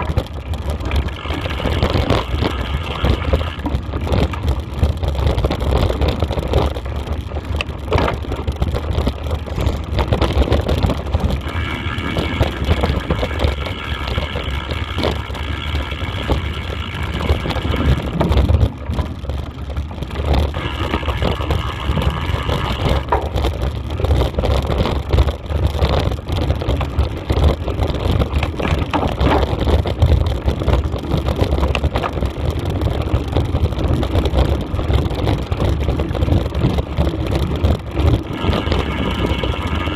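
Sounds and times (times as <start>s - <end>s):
high whine: 0.0s - 30.4s, 37.8s - 39.9s
tyres rattling on dirt trail: 0.0s - 39.9s
wind buffeting microphone: 0.0s - 39.9s.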